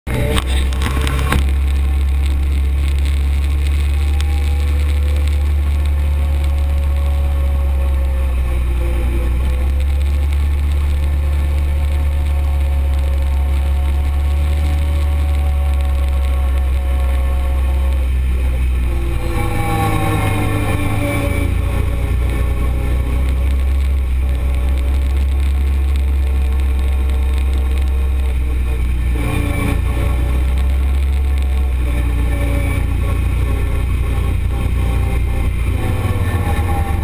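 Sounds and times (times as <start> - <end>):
utility vehicle engine droning: 0.0 - 37.0.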